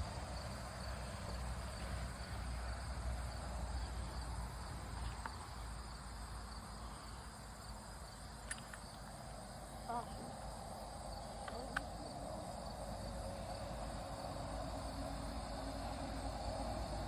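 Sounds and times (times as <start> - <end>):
insect chorus chirring: 0.0 - 17.0.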